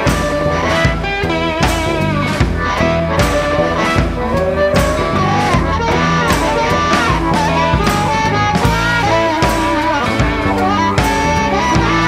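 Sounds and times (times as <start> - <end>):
instrumental band music: 0.0 - 12.0.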